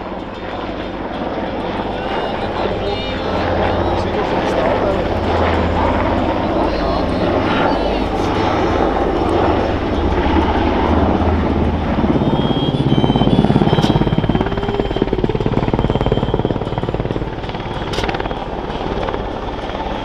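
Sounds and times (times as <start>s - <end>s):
helicopter rotor chop: 0.0s - 20.0s.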